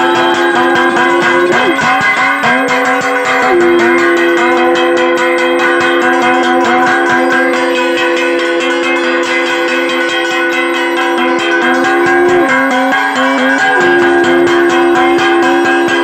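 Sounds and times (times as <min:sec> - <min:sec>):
long held note: 0:00.0 - 0:09.8, 0:11.0 - 0:16.0
bell-like notes: 0:00.0 - 0:16.0
fast steady beat: 0:00.0 - 0:16.0
plucked strings: 0:00.0 - 0:16.0.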